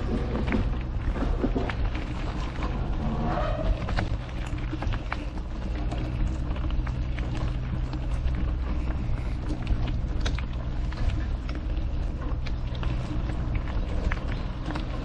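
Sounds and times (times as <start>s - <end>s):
bike tyres rumbling on gravel: 0.0s - 15.0s
small clicks and rattles: 0.0s - 15.0s.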